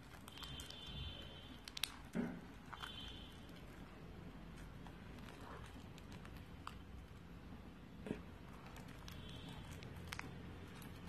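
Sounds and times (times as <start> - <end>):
spoon stirring squishing slime: 0.0 - 11.0.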